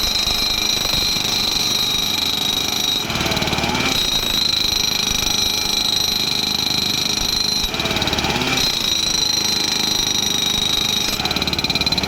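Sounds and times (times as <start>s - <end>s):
high machine whine: 0.0s - 12.0s
tamping machine vibratory hammering: 0.0s - 12.0s.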